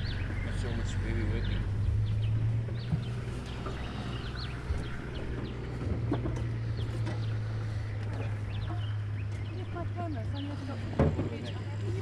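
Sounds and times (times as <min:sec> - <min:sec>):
birds chirping and cackling: 0:00.0 - 0:12.0
steady low hum: 0:00.0 - 0:12.0.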